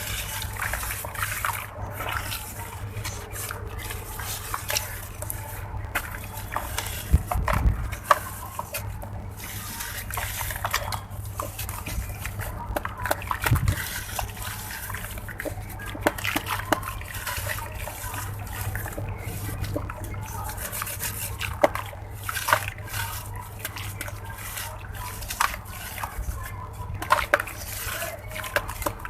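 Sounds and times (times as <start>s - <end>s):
blocks crumbling in water: 0.0s - 29.0s
small crackles and pops: 0.0s - 29.0s
steady low hum: 0.0s - 29.0s.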